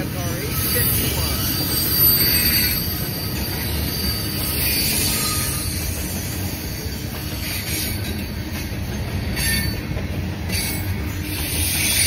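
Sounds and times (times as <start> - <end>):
high wheel squeal: 0.0 - 9.9, 10.5 - 12.0
steel wheels rumbling on rail: 0.0 - 12.0.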